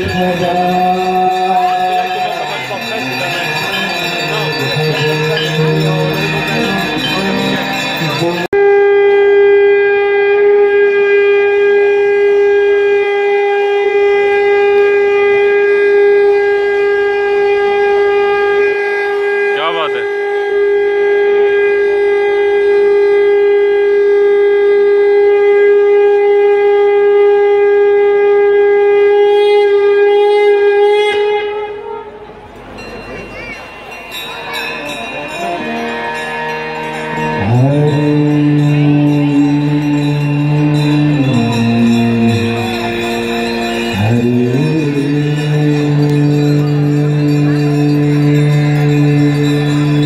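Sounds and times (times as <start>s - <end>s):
conch shell blown: 0.0s - 32.8s, 34.3s - 50.0s.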